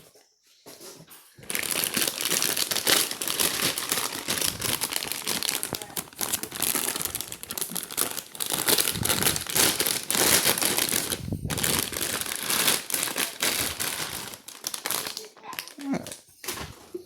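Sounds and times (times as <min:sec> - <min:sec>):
packaging crinkling: 0:01.4 - 0:16.8.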